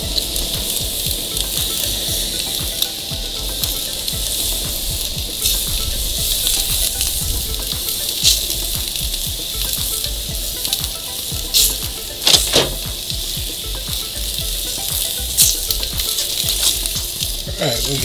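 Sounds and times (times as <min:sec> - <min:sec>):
fat popping and crackling: 0:00.0 - 0:18.0
steaks sizzling on a grill: 0:00.0 - 0:18.0.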